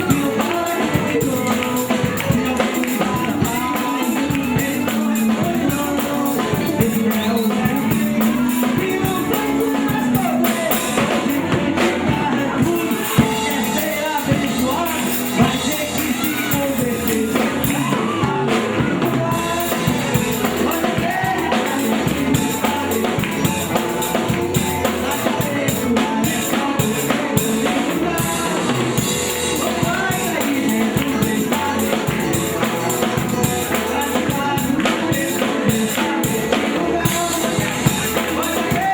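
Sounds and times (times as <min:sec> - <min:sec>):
gospel band playing: 0:00.0 - 0:38.9.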